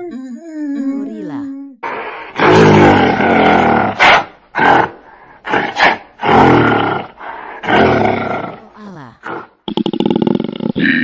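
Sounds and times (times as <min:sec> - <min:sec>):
gorilla roaring: 0:01.8 - 0:11.0.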